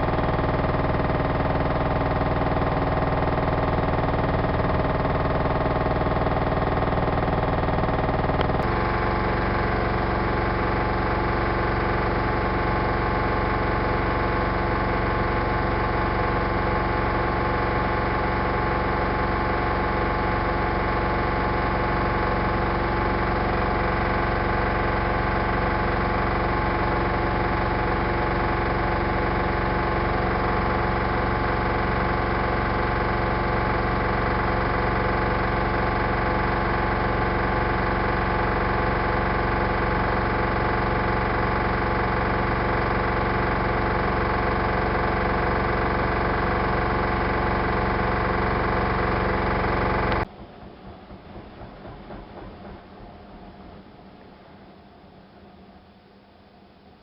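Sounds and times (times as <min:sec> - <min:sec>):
washing machine spinning: 0:00.0 - 0:55.4.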